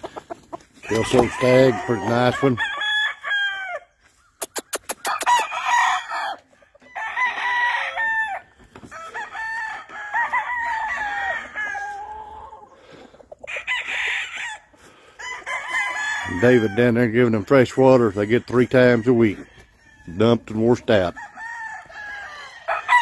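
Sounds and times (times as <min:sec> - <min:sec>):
roosters crowing: 0:00.0 - 0:23.0.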